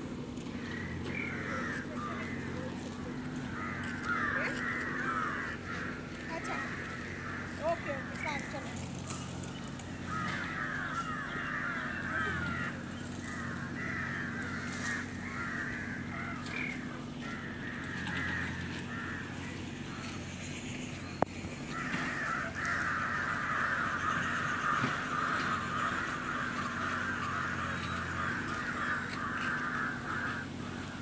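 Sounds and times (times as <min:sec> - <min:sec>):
crows cawing: 0:00.1 - 0:20.6, 0:21.3 - 0:31.0.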